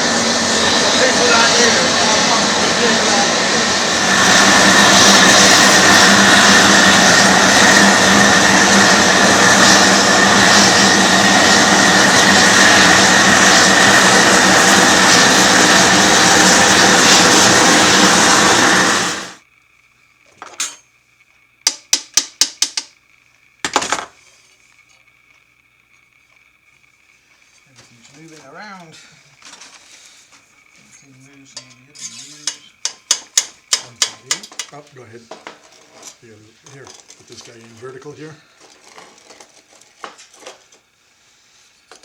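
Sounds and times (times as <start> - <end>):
gas torch hissing: 0.0 - 19.4, 27.0 - 42.0.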